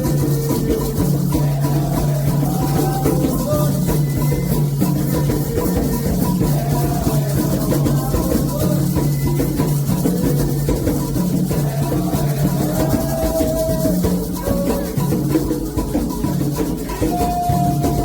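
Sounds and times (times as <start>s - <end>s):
hand drums: 0.0s - 18.0s
shaken percussion: 0.0s - 18.0s
voices singing a chant: 0.0s - 18.0s.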